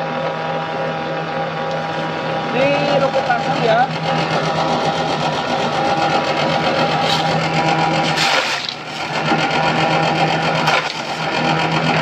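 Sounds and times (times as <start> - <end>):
grass chopper motor hum: 0.0 - 12.0
blades rasping through fodder: 1.8 - 12.0.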